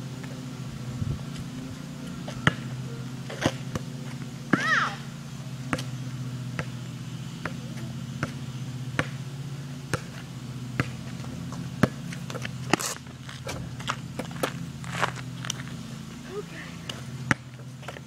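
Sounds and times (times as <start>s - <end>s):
steady low hum: 0.0s - 18.0s
basketball bouncing on asphalt: 1.2s - 15.9s, 16.8s - 18.0s.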